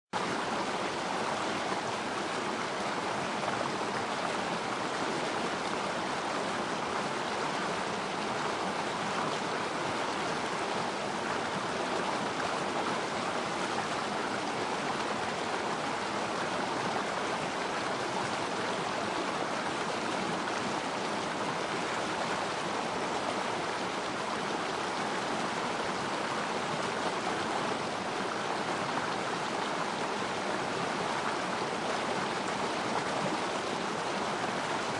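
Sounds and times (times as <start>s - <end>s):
stream water flowing: 0.2s - 34.9s.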